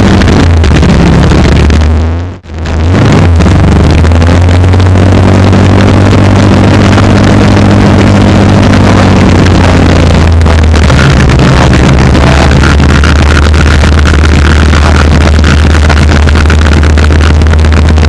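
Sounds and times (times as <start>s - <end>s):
drag car engines running: 0.0s - 18.0s.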